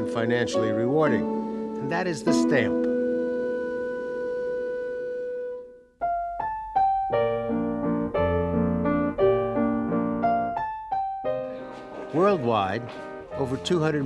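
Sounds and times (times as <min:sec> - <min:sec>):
piano melody over chords: 0:00.0 - 0:14.0.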